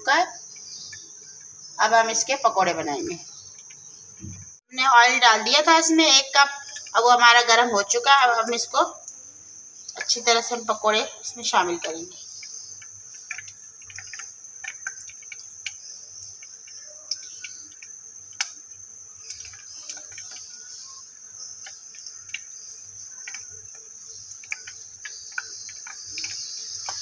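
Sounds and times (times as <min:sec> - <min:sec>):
batter frying in hot oil: 0:05.2 - 0:27.0.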